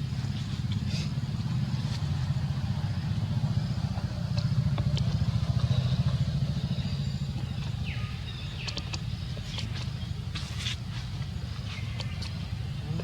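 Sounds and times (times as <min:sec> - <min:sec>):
small engine pulsing rumble: 0:00.0 - 0:13.0.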